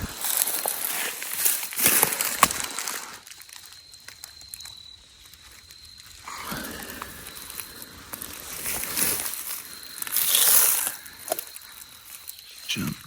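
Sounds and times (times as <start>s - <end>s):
dry leaves crunching underfoot: 0.0s - 12.4s.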